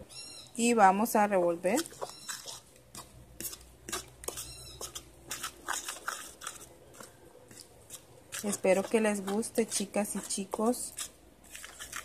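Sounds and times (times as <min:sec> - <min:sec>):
fork stirring batter in a bowl: 0:01.0 - 0:12.0.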